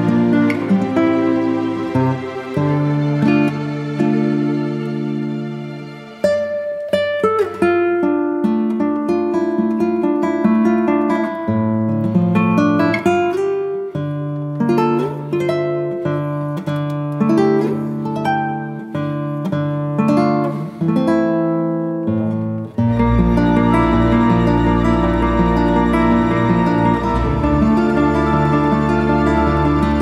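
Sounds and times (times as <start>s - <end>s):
plucked string melody: 0.0s - 30.0s.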